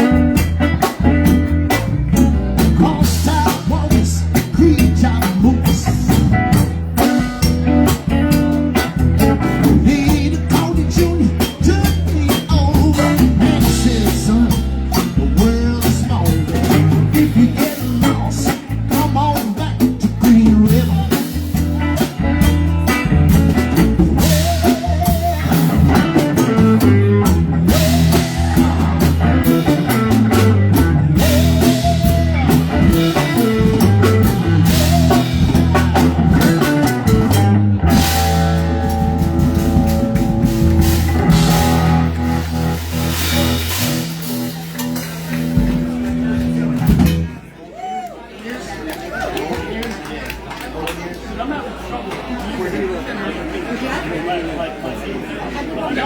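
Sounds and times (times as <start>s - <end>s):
electric guitar: 0.0s - 47.4s
drum kit: 0.0s - 47.5s
live blues-rock band: 0.0s - 47.6s.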